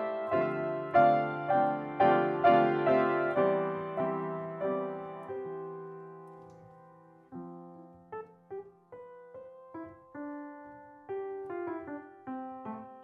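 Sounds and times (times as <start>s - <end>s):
soft upright piano: 0.0s - 13.0s.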